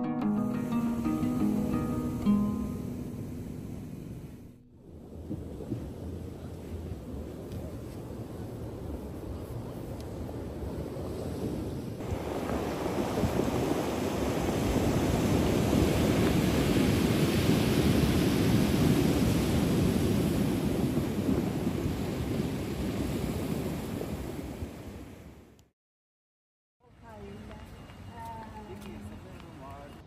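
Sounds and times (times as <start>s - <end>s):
sea surf washing ashore: 0.2s - 25.4s.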